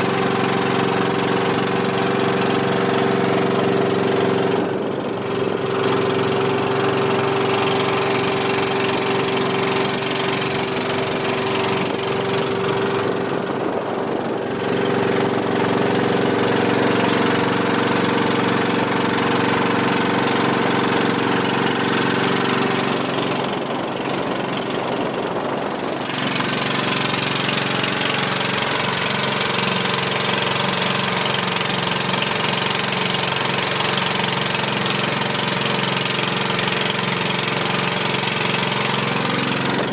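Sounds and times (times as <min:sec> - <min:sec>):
boat engine running: 0:00.0 - 0:39.9
rushing wind and water: 0:00.0 - 0:39.9.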